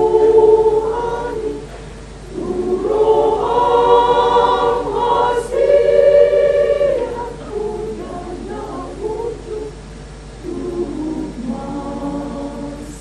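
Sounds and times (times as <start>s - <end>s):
women's choir singing chords: 0.0s - 13.0s.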